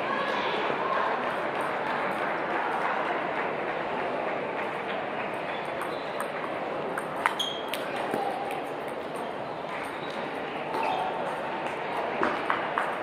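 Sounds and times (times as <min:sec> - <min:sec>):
murmur of crowd: 0:00.0 - 0:13.0.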